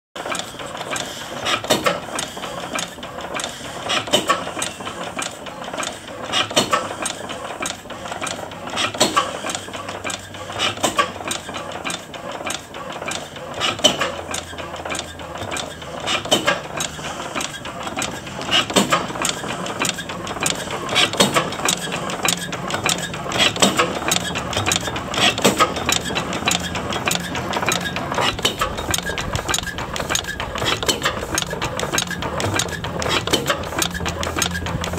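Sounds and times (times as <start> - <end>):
oil engine clattering: 0.2 - 34.9.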